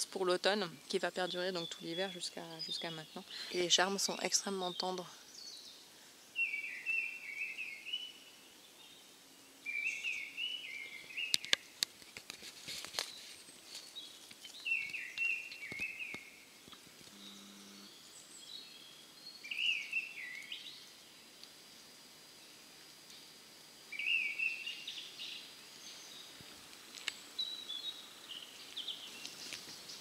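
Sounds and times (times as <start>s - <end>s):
songbird singing: 0.0s - 12.0s, 12.8s - 30.0s.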